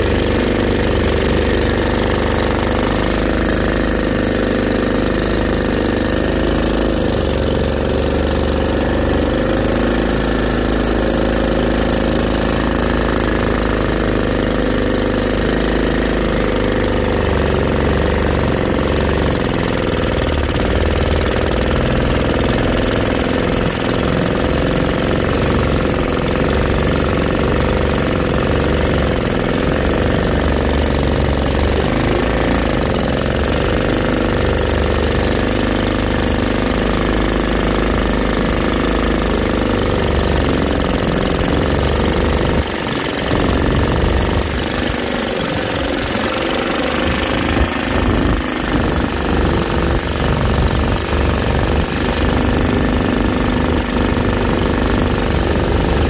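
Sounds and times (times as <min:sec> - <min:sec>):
boat engine running under load: 0:00.0 - 0:56.0.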